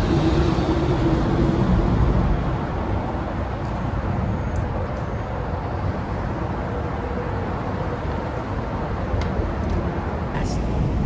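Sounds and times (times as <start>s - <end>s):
freeway traffic rumble: 0.0s - 11.0s.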